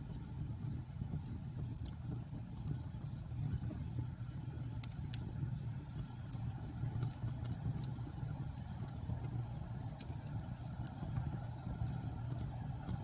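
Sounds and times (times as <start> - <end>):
burning wood popping and snapping: 0.0 - 13.0
low rumble of flames: 0.0 - 13.0.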